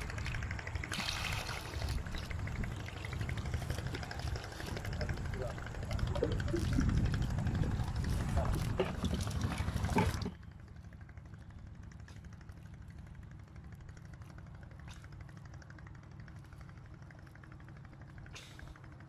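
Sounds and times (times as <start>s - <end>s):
idling engine hum: 0.0s - 19.0s.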